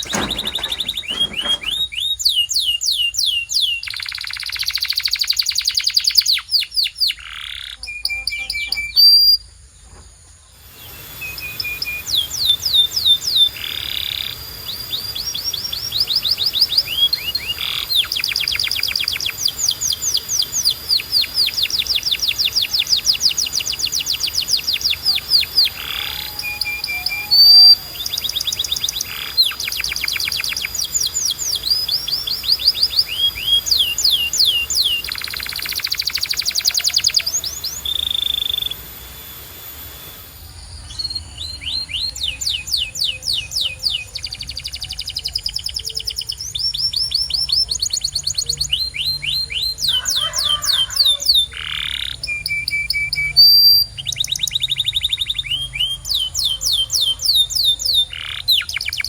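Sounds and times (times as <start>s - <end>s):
canary singing trills: 0.0s - 9.5s, 10.5s - 59.0s.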